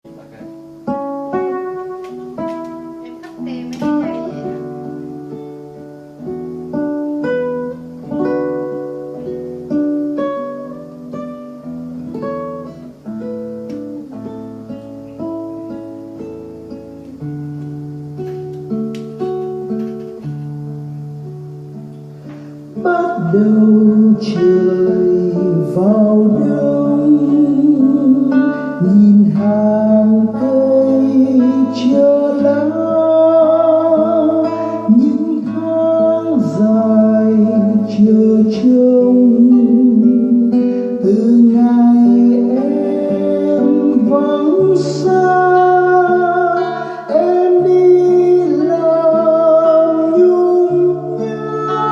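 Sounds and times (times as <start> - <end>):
acoustic guitar ballad: 0.0 - 51.9.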